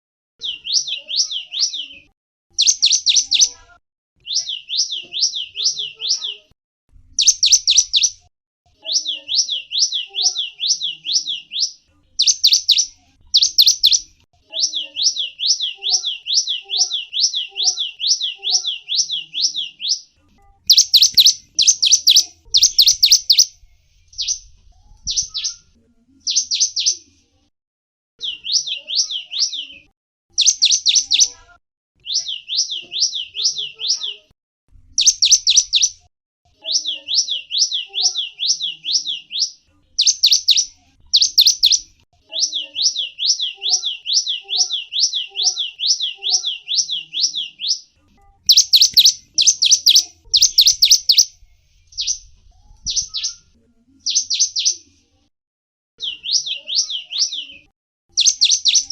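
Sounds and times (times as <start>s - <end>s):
small songbird singing: 0.4s - 27.1s, 28.2s - 31.4s, 32.0s - 34.3s, 34.9s - 36.0s, 36.6s - 54.8s, 56.0s - 58.9s.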